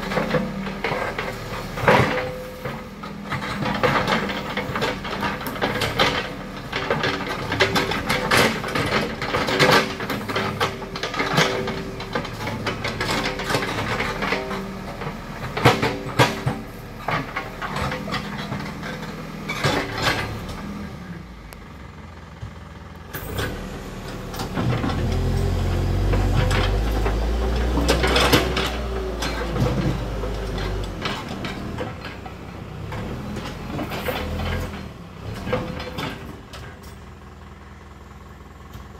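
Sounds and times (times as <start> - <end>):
backhoe bucket clanks and knocks: 0.0 - 21.1, 21.8 - 37.6
backhoe diesel engine rumbling: 0.0 - 38.9.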